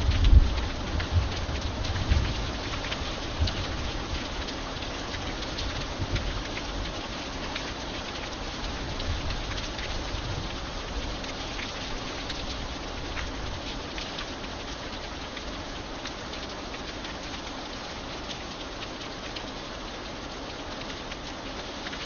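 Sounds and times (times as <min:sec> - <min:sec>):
raindrops tapping: 0:00.0 - 0:22.0
steady rain falling: 0:00.0 - 0:22.0.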